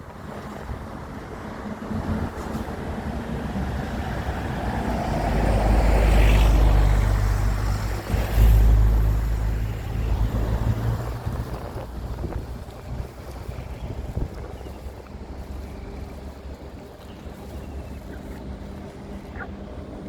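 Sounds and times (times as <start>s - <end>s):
wind rumble on microphone: 0.0s - 20.0s
motor vehicle passing by: 2.1s - 20.0s.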